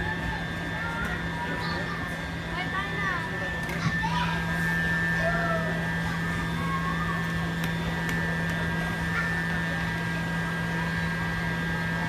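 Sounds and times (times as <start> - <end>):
high whine: 0.0 - 12.0
steady machine hum: 0.0 - 12.0.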